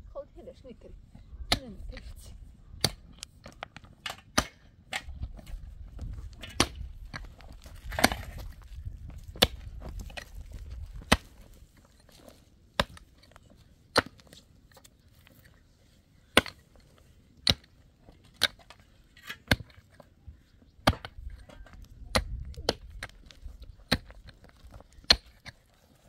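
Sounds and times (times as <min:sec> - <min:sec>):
soil and stones crunching: 0:00.4 - 0:26.0
pickaxe striking stony ground: 0:02.8 - 0:14.9, 0:16.2 - 0:20.0, 0:20.8 - 0:26.0.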